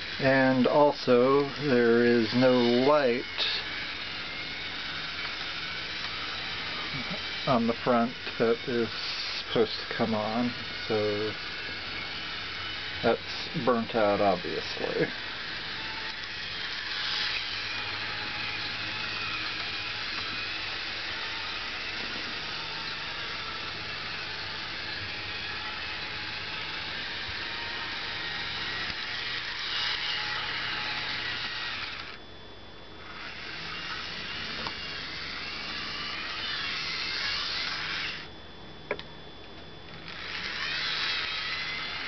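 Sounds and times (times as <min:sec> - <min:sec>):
model train motor whirring: 0:00.0 - 0:32.2, 0:33.0 - 0:38.3, 0:39.9 - 0:42.0.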